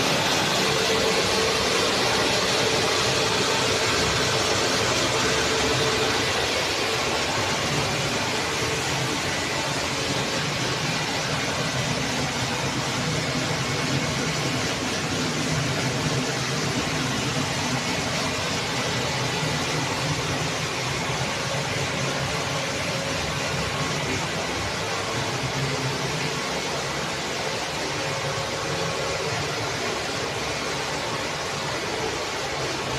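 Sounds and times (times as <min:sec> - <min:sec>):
low machine hum: 0:00.0 - 0:32.9
steady rush of boiler plant: 0:00.0 - 0:32.9.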